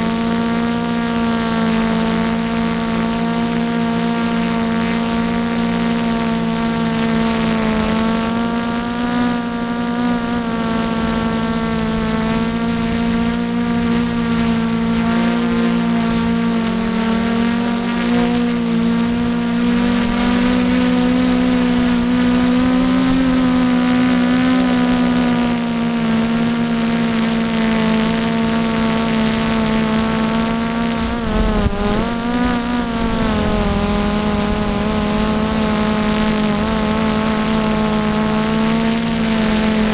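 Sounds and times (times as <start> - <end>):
drone propellers buzzing: 0.0 - 39.9
high electronic whine: 0.0 - 39.9.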